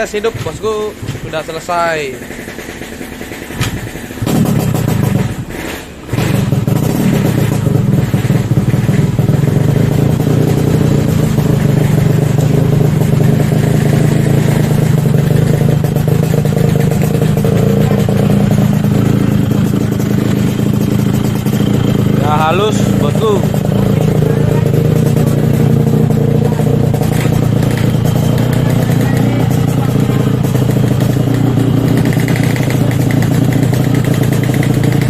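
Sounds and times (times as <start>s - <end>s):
two-stroke motorcycle engine running: 0.0s - 35.0s.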